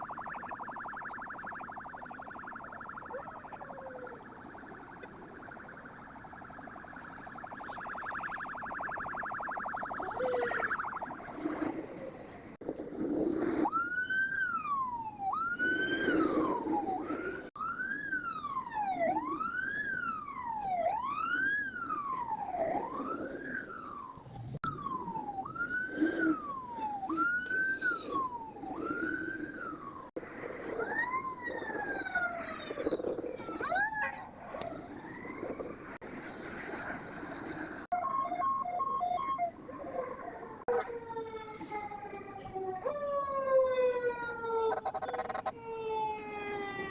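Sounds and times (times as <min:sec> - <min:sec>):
fire truck electronic siren: 0:00.0 - 0:12.0, 0:13.4 - 0:46.9.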